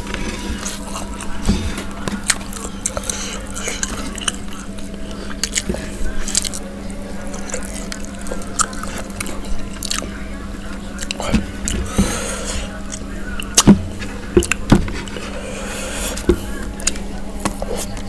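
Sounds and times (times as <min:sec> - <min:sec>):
person chewing food: 0:00.0 - 0:18.0
steady low hum: 0:00.0 - 0:18.0.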